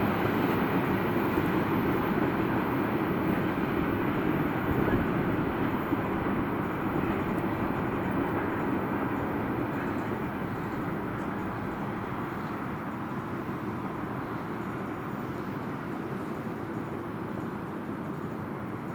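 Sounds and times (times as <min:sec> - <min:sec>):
freight train rumbling on rails: 0:00.0 - 0:18.9.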